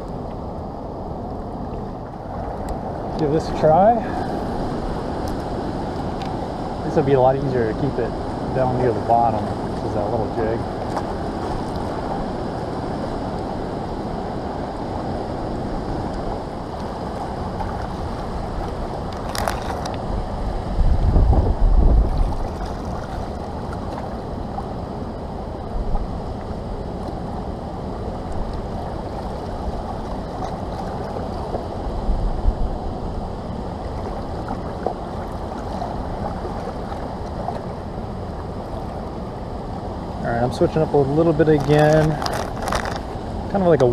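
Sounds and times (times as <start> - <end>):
fast river current rushing: 0.0 - 43.9
wind buffeting microphone: 0.0 - 43.9.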